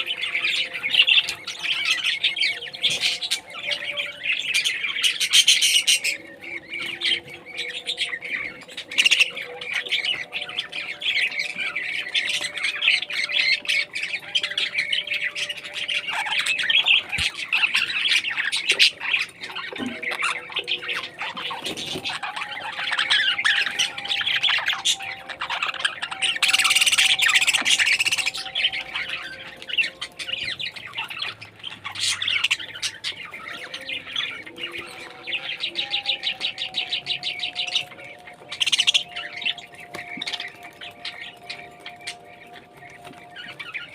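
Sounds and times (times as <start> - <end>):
parrots chattering and squawking: 0.0 - 43.9.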